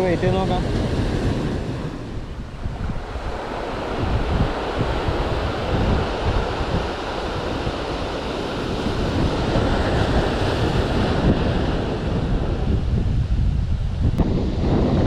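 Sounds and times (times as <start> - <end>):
sea surf breaking on shore: 0.0 - 15.0
wind buffeting microphone: 0.0 - 15.0.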